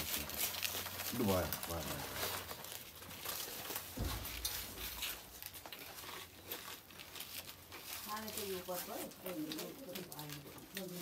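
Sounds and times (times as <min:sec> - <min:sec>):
plastic plates crinkling: 0:00.0 - 0:11.0
plastic spoons clicking and scraping: 0:00.0 - 0:11.0.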